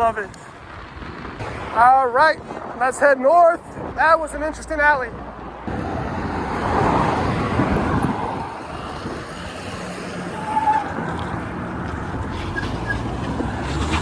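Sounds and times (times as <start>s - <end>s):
bike road noise: 0.0s - 14.0s
street traffic: 0.0s - 14.0s
wind rushing over microphone: 0.0s - 14.0s.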